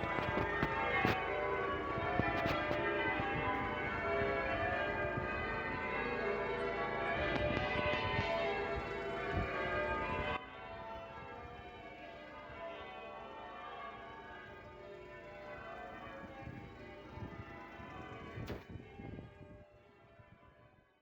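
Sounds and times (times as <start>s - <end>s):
church bells pealing: 0.0s - 19.0s.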